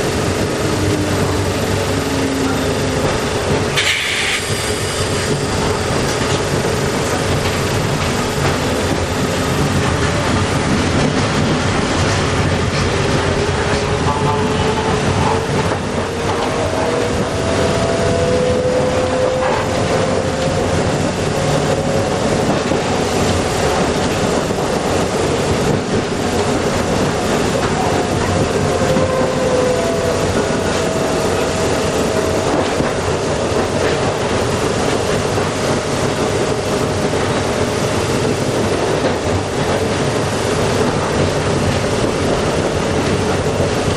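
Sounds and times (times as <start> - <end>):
streetcar motor whine: 0.0 - 43.9
streetcar rumble and wheel clatter: 0.0 - 43.9.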